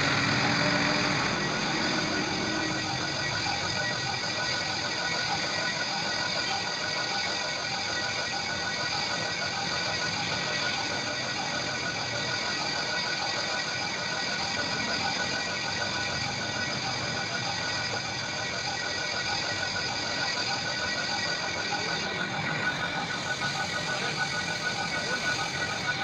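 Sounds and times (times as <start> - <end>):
machine humming steadily: 0.0 - 26.0.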